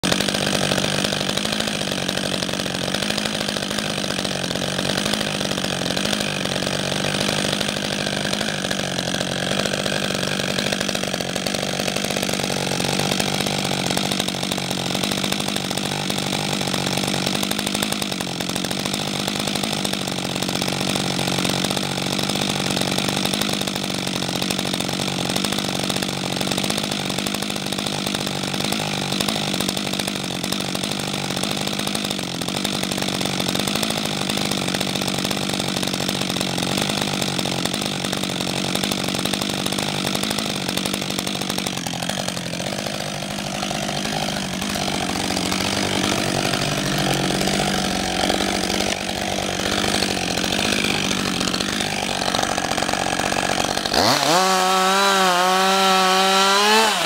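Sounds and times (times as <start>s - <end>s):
chainsaw engine idling: 0.0s - 57.0s.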